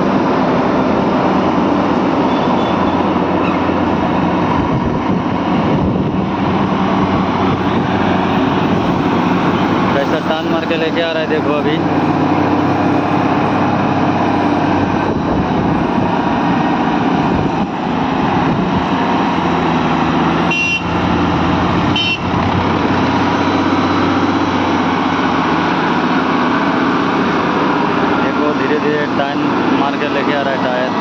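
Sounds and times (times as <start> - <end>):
tractor engine: 0.0 - 31.0
truck diesel engine under load: 0.0 - 31.0.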